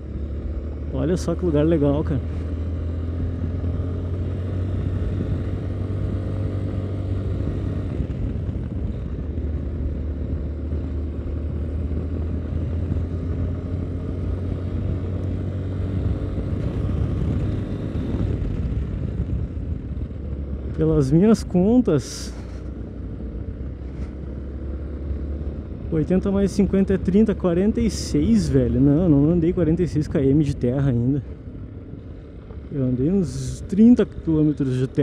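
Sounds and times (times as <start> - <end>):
motorcycle engine droning: 0.0 - 35.0.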